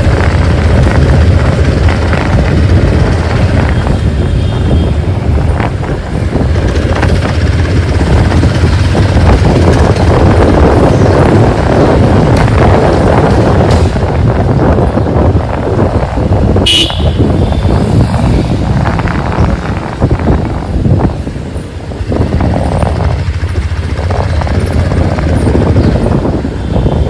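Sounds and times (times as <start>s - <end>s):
motorcycle engine running: 0.0s - 27.0s
wind rush on microphone: 0.0s - 27.0s.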